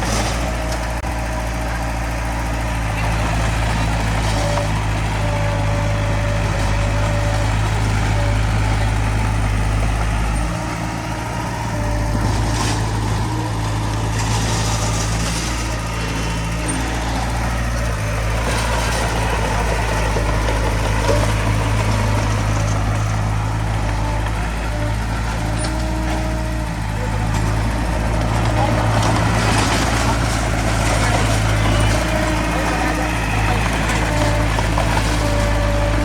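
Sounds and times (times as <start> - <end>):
heavy diesel engines running: 0.0 - 36.0.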